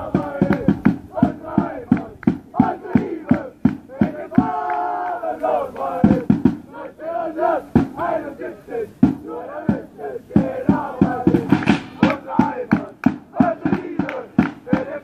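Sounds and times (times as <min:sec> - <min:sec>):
crowd chanting in unison: 0:00.0 - 0:15.0.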